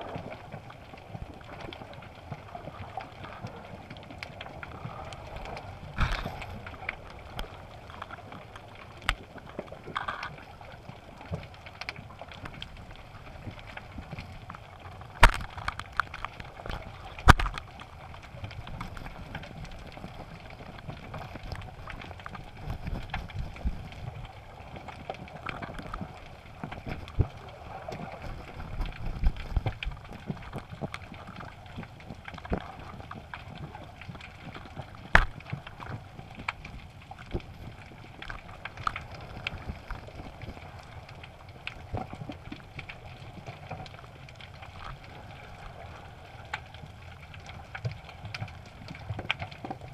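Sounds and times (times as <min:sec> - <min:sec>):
small underwater clicks: 0:00.0 - 0:49.9.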